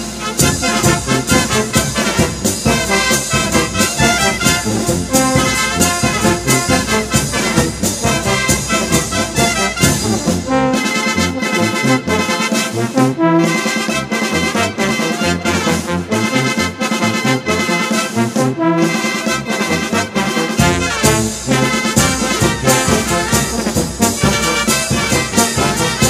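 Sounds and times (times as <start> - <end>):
brass band playing: 0.0 - 26.0.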